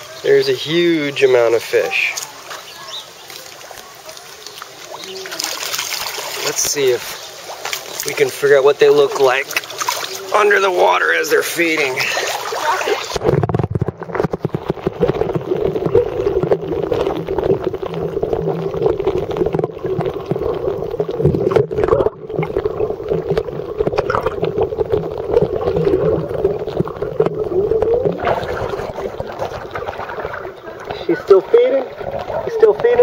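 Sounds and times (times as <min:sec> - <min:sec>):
muffled underwater water sound: 0:00.0 - 0:33.0.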